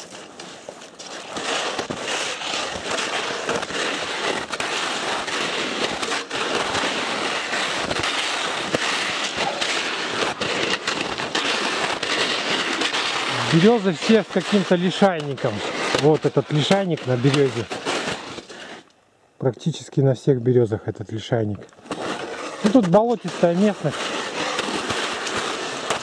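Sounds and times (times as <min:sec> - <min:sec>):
skis swishing through snow: 0:00.0 - 0:18.9, 0:21.4 - 0:26.0
twigs and branches crackling: 0:00.0 - 0:19.0, 0:21.4 - 0:26.0.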